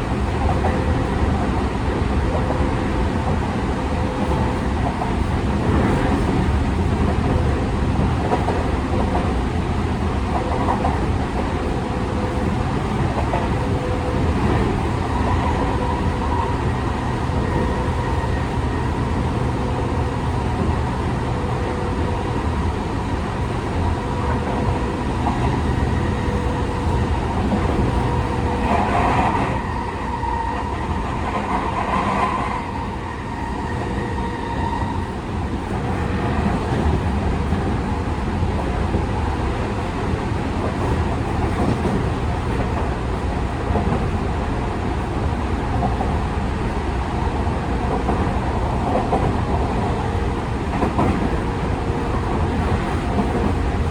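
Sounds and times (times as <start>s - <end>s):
train rattles: 0.0s - 53.9s
wheels rumbling on rail: 0.0s - 53.9s.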